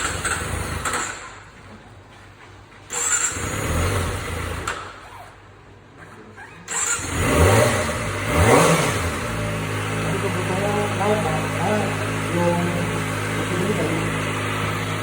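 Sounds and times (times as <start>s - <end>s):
motorcycle engine revving: 0.0s - 1.4s, 2.9s - 15.0s.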